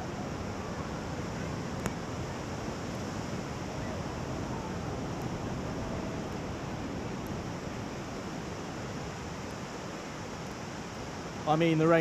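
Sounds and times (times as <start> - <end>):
wind noise on microphone: 0.0 - 11.4
sea surf breaking on sand: 0.0 - 12.0.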